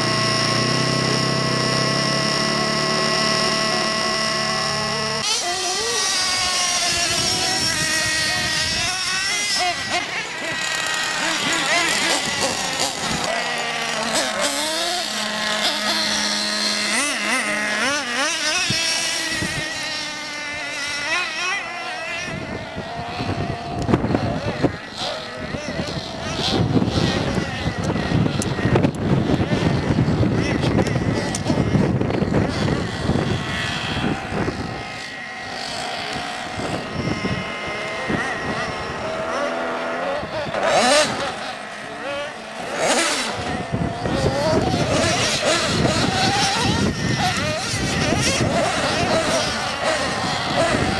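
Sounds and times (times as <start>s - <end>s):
rc car engines whining: 0.0s - 50.9s.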